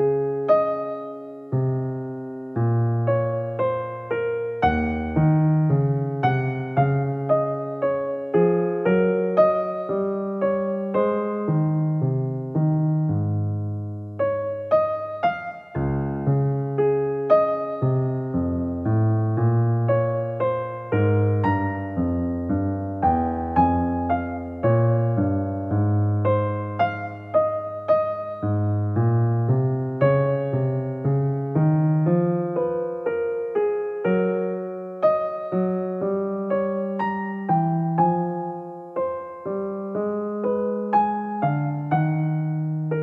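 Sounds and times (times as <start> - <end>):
slow piano music: 0.0 - 43.0.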